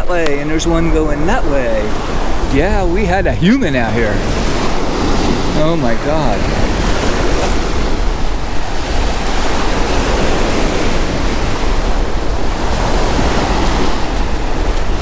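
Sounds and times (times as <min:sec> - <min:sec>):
surf breaking on beach: 0:00.0 - 0:15.0
wind rumbling on microphone: 0:00.0 - 0:15.0.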